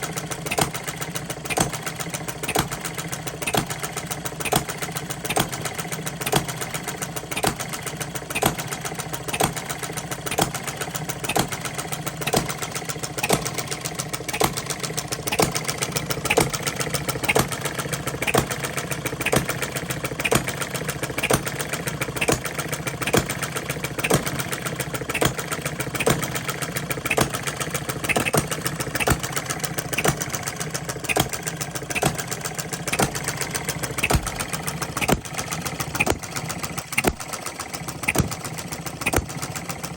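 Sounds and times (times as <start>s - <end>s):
engine firing stroke: 0.0s - 39.9s
rapid clicking of moving parts: 0.0s - 39.9s
small gas engine running: 0.0s - 39.9s.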